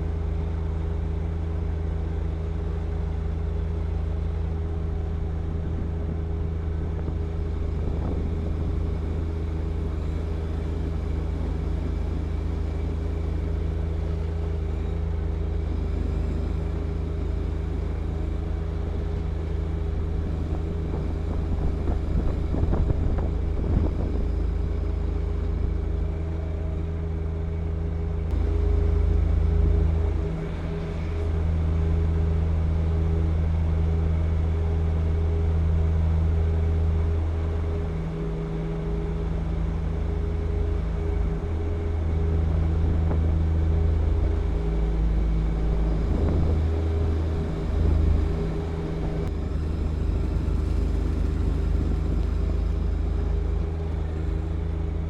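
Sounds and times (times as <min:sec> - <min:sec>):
tractor diesel engine running: 0:00.0 - 0:55.0
snow blower clearing snow: 0:03.7 - 0:55.0.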